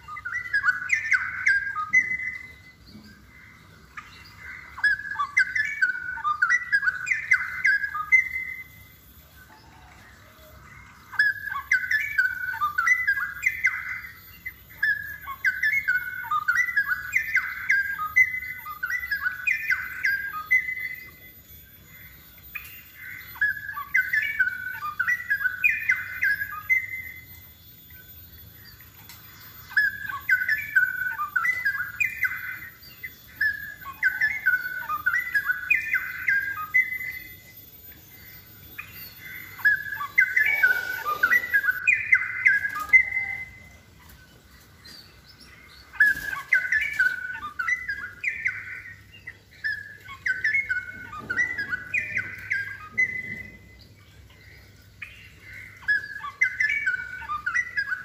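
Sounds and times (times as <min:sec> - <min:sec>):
bird singing warbled phrases: 0:00.0 - 0:58.0.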